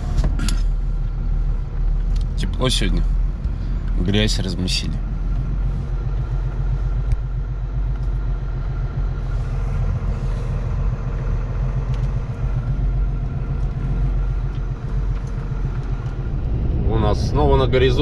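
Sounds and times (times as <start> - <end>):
road noise rumble: 0.0 - 18.0
truck engine droning: 0.0 - 18.0.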